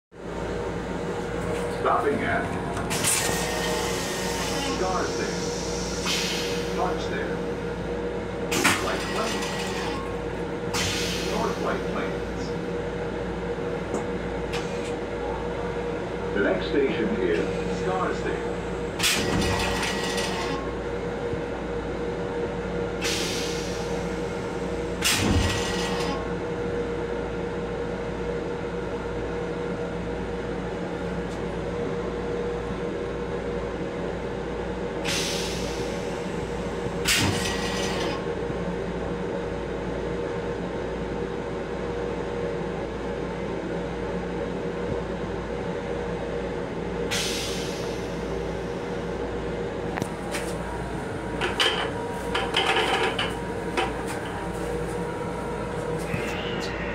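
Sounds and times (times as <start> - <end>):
electric railcar hum: 0.1 - 56.9.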